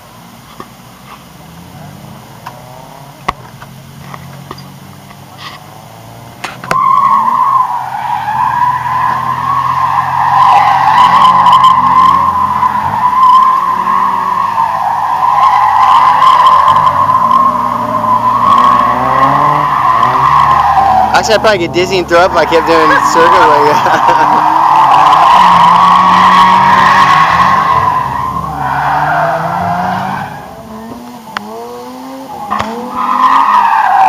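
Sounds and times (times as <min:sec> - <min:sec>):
car engine: 0:00.0 - 0:34.0
car tyres squealing: 0:00.5 - 0:34.0.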